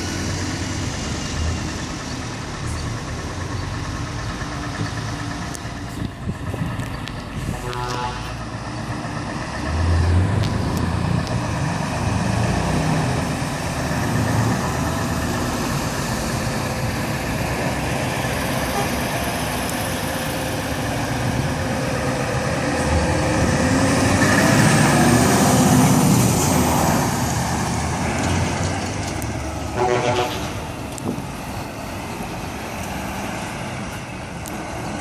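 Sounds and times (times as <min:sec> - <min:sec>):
trucks driving past: 0:00.0 - 0:35.0.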